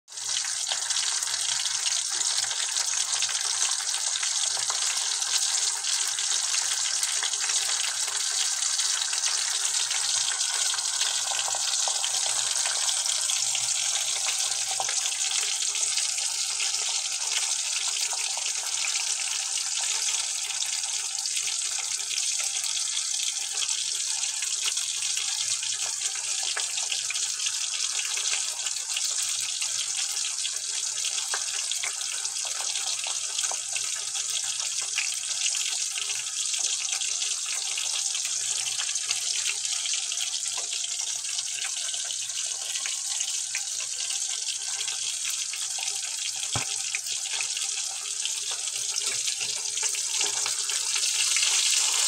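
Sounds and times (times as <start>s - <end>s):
meat sizzling in a pan: 0.1s - 52.0s.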